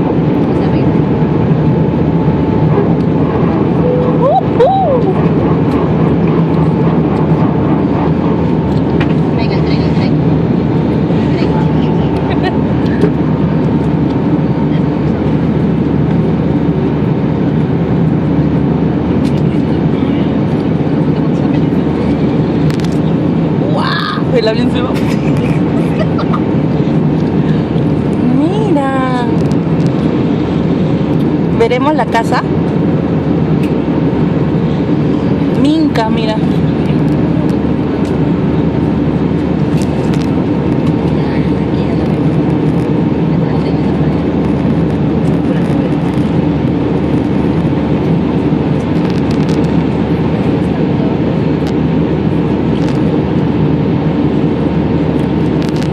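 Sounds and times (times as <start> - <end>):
airliner cabin engine drone: 0.0 - 55.9.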